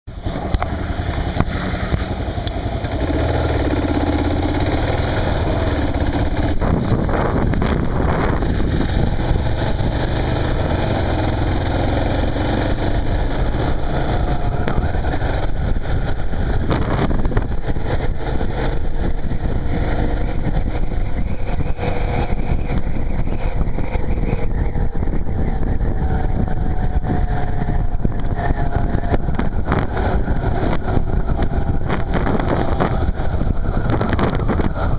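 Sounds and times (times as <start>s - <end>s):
wind and road noise: 0.0s - 34.9s
motorcycle engine running: 0.1s - 34.9s.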